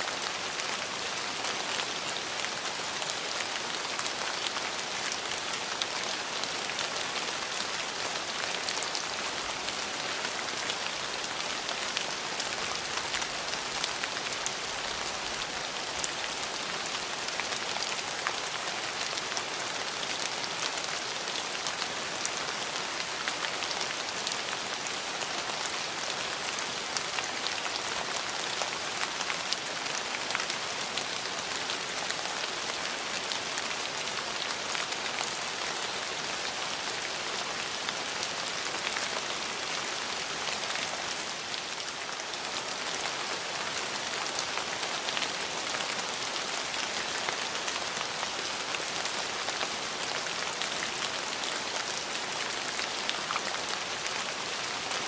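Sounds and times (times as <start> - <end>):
rain on hard surfaces: 0.0 - 55.0.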